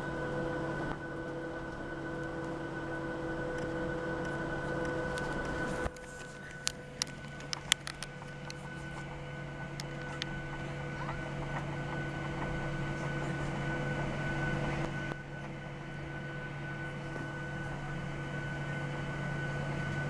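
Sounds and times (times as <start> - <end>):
jet engines humming in cabin: 0.0 - 20.0.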